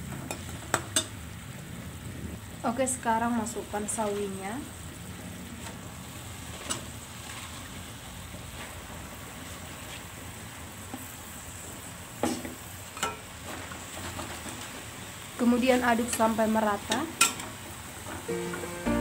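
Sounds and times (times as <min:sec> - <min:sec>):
wok sizzling: 0:00.0 - 0:19.0.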